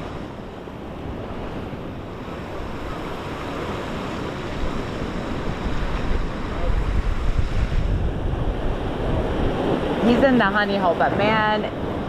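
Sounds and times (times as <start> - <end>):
ocean surf washing: 0.0 - 12.0
wind rumble on microphone: 0.0 - 12.0.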